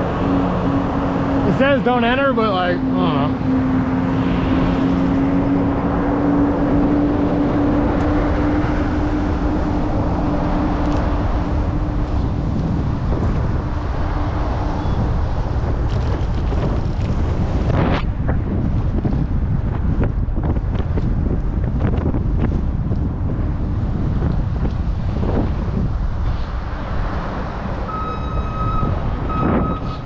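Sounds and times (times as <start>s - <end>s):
road traffic engine hum: 0.0s - 30.0s
wind rushing over microphone: 0.0s - 30.0s.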